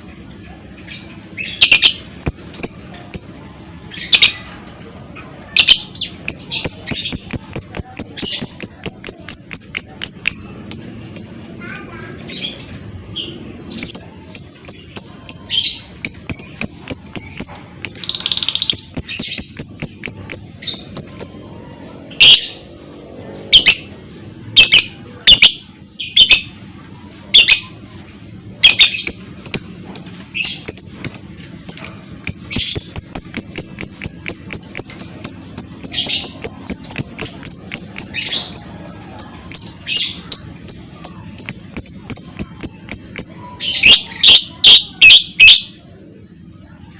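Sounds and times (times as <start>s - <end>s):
bird chirping: 0.8s - 4.5s, 5.5s - 21.5s, 24.6s - 26.6s, 28.6s - 45.8s.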